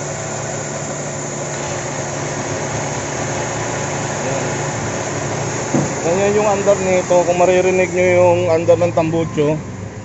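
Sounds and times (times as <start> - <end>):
car engine idling roughly: 0.0 - 9.6.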